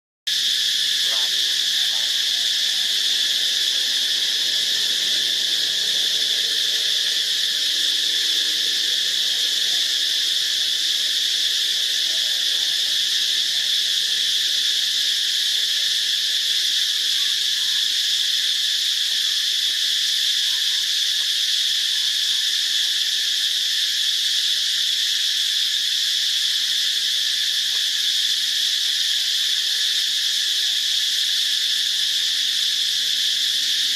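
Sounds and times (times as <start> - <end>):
insects buzzing: 0.3 - 33.9.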